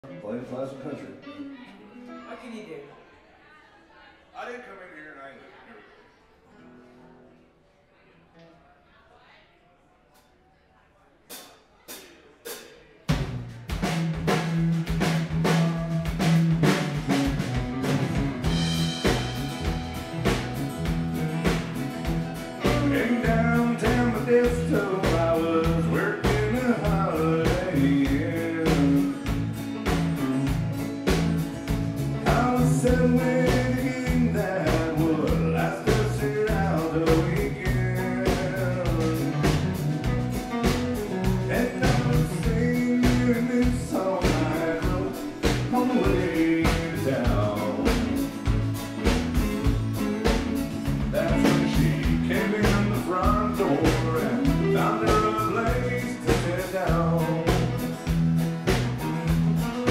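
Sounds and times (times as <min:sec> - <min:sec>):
electric and acoustic guitars: 0:00.0 - 0:02.6, 0:13.2 - 0:59.9
drum kit beat: 0:11.3 - 0:59.9.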